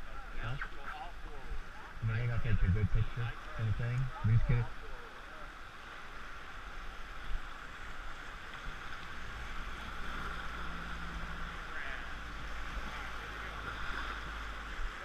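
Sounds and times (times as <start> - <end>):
low rumble of water: 0.0 - 15.0
river water rushing: 0.0 - 15.0.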